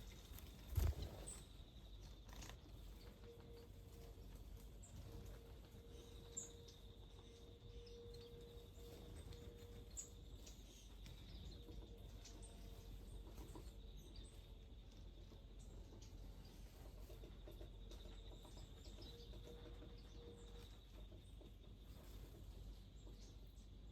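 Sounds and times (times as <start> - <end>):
low background hum: 0.0 - 23.9
small birds chirping: 0.0 - 23.9.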